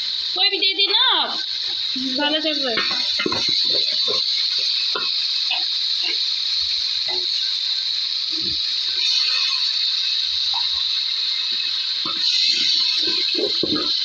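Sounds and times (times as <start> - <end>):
steady high-pitched hiss: 0.0 - 14.0.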